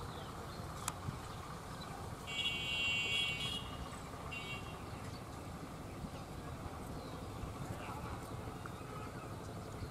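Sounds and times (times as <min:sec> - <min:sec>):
diesel locomotive rumble: 0:00.0 - 0:09.9.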